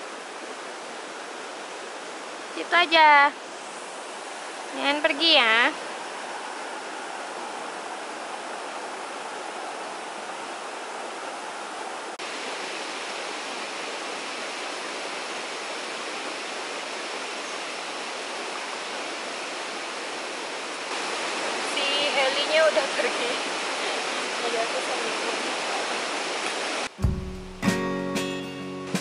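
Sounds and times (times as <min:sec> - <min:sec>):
running water rushing: 0:00.0 - 0:27.4.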